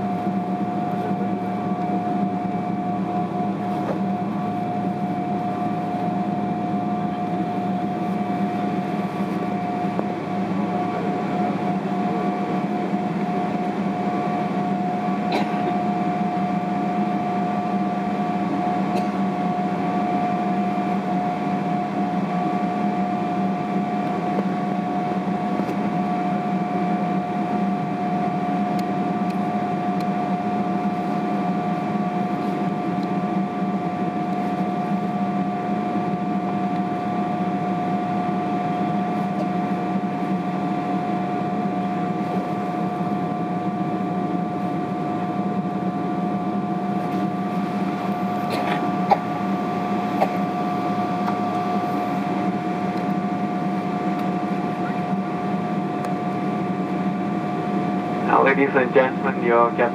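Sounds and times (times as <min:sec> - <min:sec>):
aircraft cabin hum and air rush: 0:00.0 - 0:59.9
high whine: 0:00.0 - 0:59.9.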